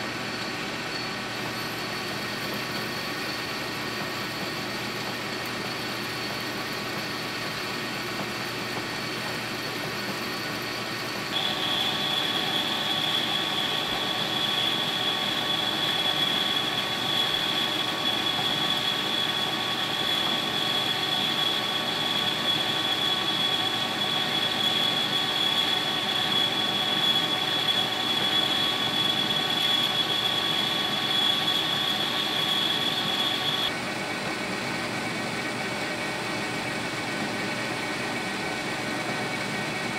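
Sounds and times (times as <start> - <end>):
metal lathe whining: 0.0 - 33.8.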